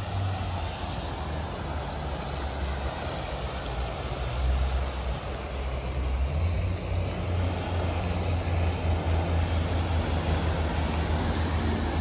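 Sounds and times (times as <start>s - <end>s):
motorboat engine drone: 0.0s - 12.0s.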